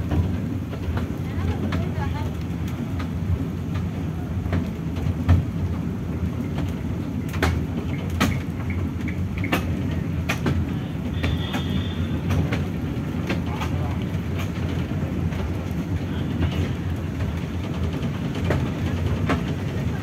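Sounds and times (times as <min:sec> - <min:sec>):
toy train rumbling on track: 0:00.0 - 0:20.0
wheel clicks on rails: 0:00.0 - 0:20.0.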